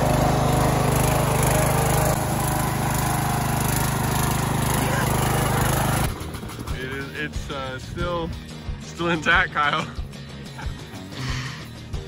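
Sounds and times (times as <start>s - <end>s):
riding lawn mower running: 0.0s - 11.6s.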